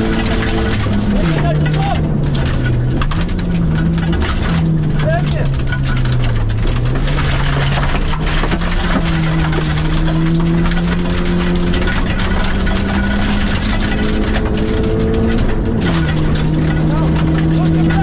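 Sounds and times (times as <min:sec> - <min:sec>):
gravel noise and stone clicks: 0:00.0 - 0:18.0
rally car engine pulling hard: 0:00.0 - 0:18.0.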